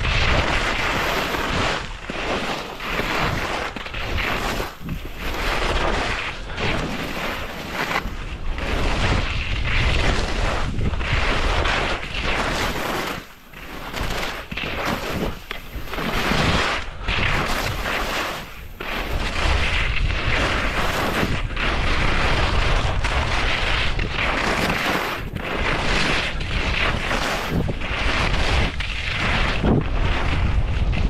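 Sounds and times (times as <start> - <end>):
wind buffeting microphone: 0.0 - 2.1, 3.1 - 12.8, 13.8 - 31.0
skis scraping over hard snow: 0.0 - 31.0.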